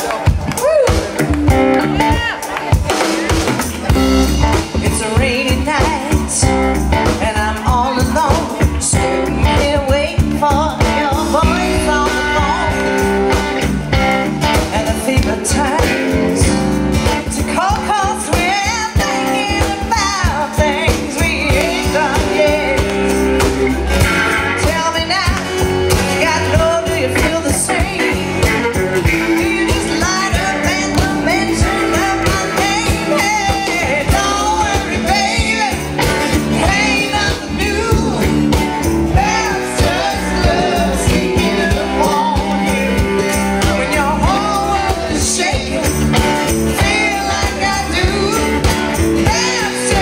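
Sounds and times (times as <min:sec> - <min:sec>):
electric guitar: 0:00.0 - 0:50.0
person singing: 0:00.0 - 0:50.0
rock and roll band playing: 0:00.0 - 0:50.0
steady drum beat: 0:00.0 - 0:50.0.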